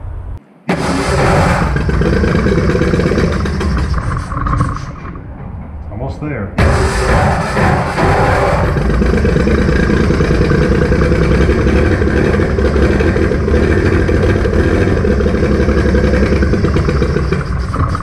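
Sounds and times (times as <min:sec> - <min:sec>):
engine running without exhaust: 0:00.3 - 0:05.1, 0:06.6 - 0:18.0.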